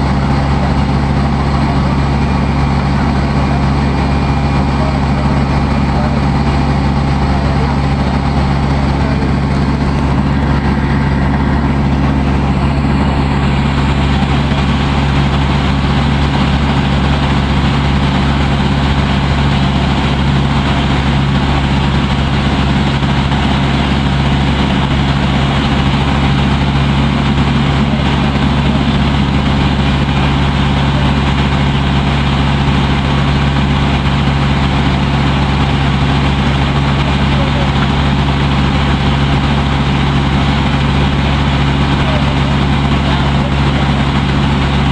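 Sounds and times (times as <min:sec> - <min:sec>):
boat engine low drone: 0:00.0 - 0:44.9.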